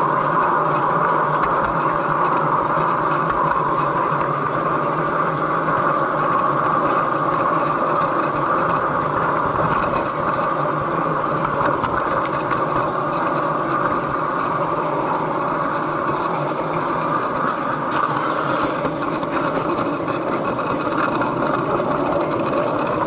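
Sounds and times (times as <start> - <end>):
wheels rolling on rails: 0.0 - 23.0
faint clicks: 0.1 - 23.0.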